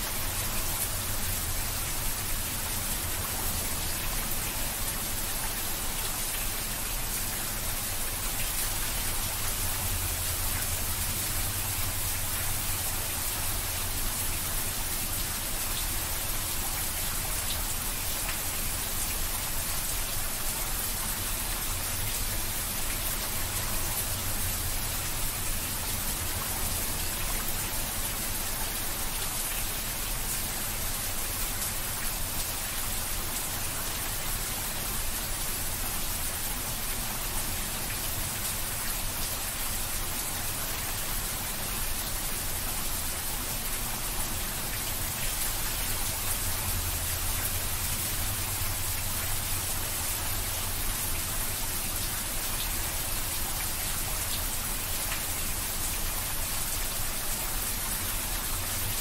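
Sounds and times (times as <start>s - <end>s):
heavy rain on a rooftop: 0.0s - 59.0s.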